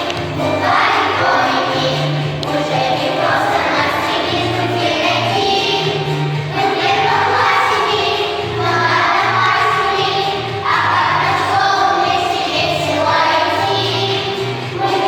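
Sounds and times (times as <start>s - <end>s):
children singing: 0.0s - 15.0s
instrumental accompaniment: 0.0s - 15.0s.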